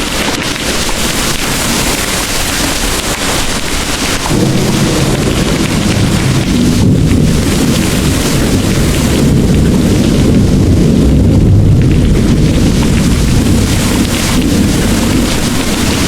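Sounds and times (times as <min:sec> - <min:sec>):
heavy rain: 0:00.0 - 0:16.0
low thunder rumble: 0:00.0 - 0:16.0.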